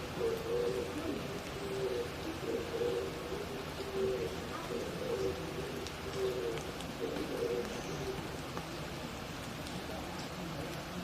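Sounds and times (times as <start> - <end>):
doves cooing: 0.0 - 9.4
forest background hiss: 0.0 - 11.0.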